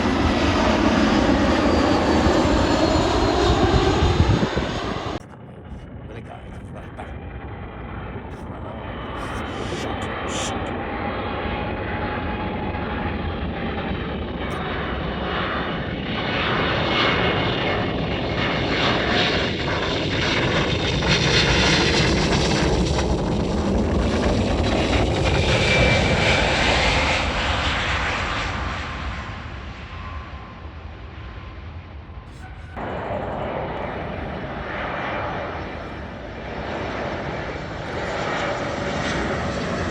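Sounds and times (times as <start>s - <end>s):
jet airliner passing by: 0.0s - 39.9s.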